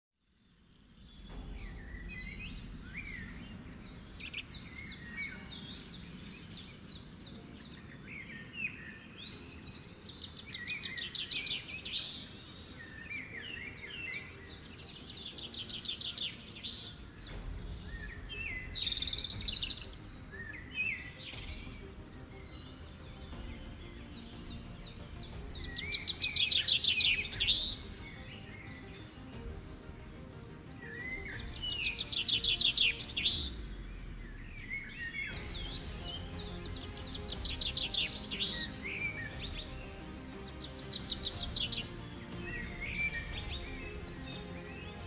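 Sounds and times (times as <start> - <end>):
birds singing: 0.2 - 45.0.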